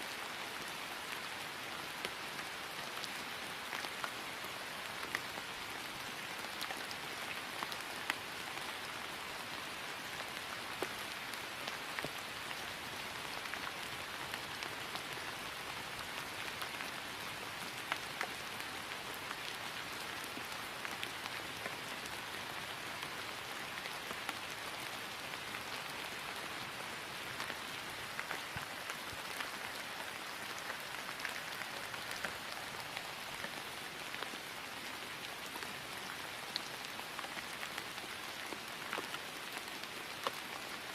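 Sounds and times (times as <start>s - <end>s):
rain falling on grass: 0.0s - 40.9s.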